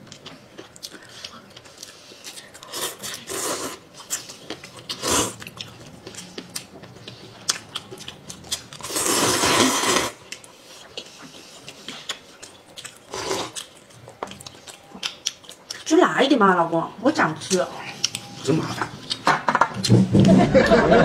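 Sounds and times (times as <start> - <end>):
chewing and crunching: 0.0 - 19.9.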